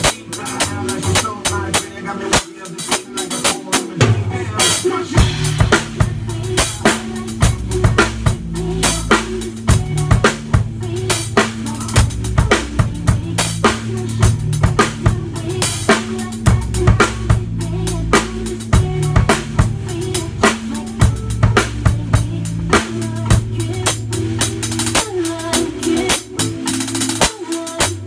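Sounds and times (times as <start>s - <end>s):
drum kit playing: 0.0s - 28.0s
recorded song with deep bass: 0.0s - 28.0s.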